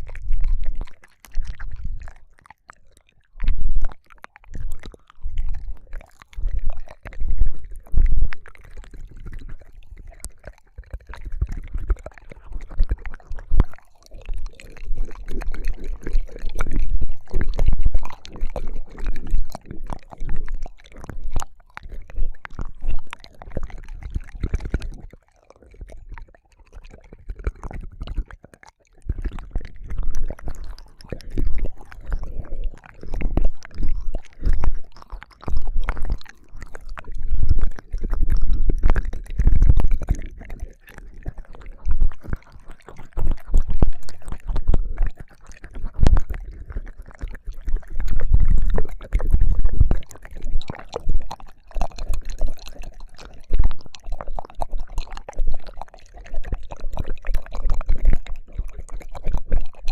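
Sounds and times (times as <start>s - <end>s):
mouth clicks and squishes: 0.0s - 59.9s
wet tongue licks: 0.0s - 59.9s.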